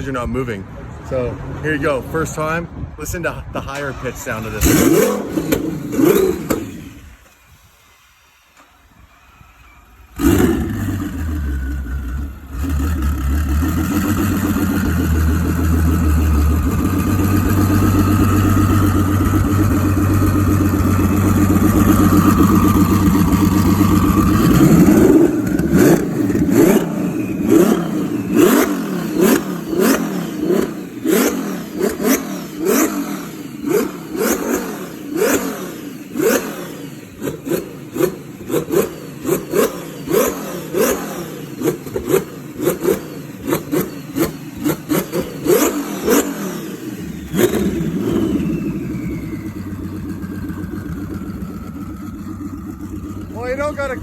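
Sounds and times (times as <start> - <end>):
car engine starting and idling: 0.7 - 54.0
car engine revving in sharp blips: 4.3 - 7.4, 10.1 - 54.0.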